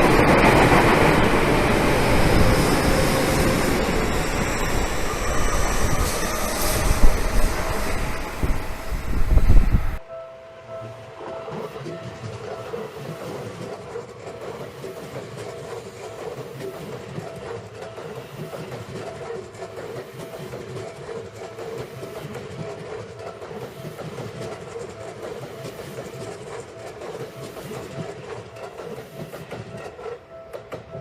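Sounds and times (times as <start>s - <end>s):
train wheels clattering on rails: 0.0s - 10.0s, 11.2s - 31.0s.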